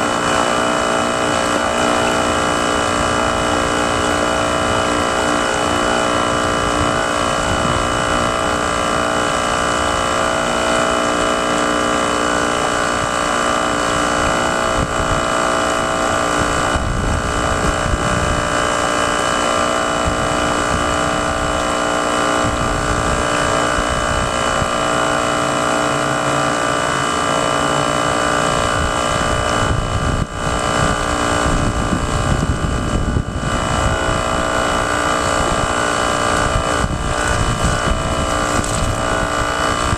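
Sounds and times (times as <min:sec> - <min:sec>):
wind buffeting microphone: 0:00.0 - 0:26.0, 0:26.8 - 0:39.9
model boat motors whining: 0:00.0 - 0:39.9.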